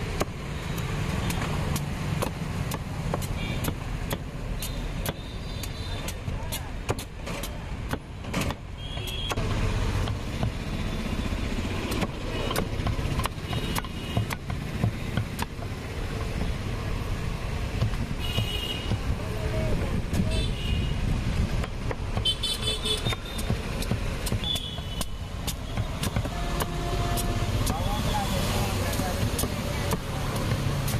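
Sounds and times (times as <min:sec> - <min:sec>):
knife chopping fruit rind: 0:00.0 - 0:10.8, 0:11.8 - 0:16.5, 0:21.5 - 0:30.9
road traffic rumble: 0:00.0 - 0:30.9.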